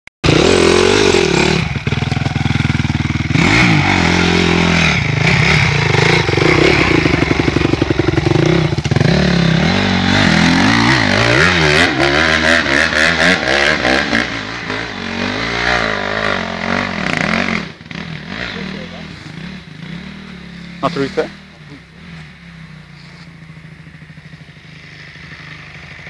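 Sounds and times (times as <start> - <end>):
dirt bike engine revving: 0.2 - 26.0.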